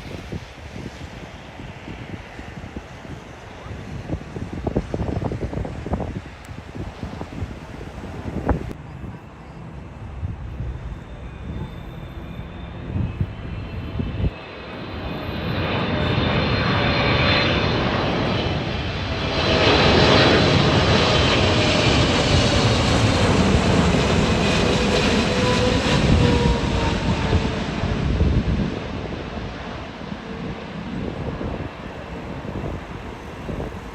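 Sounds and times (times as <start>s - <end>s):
jet engines roaring: 0.0s - 33.9s
wind buffeting microphone: 0.0s - 33.9s.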